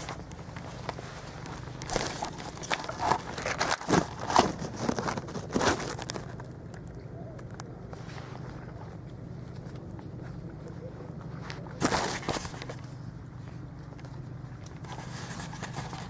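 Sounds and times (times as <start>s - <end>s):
dry leaves and twigs crackling: 0.0s - 16.0s
steady low hum: 0.0s - 16.0s.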